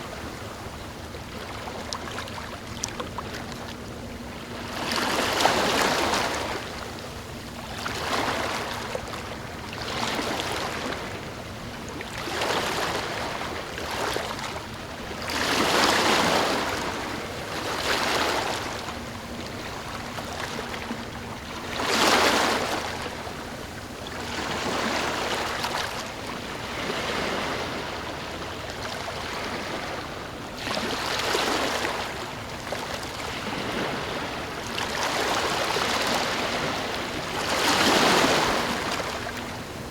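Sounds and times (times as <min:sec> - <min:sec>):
small ocean waves washing in: 0:00.0 - 0:39.9.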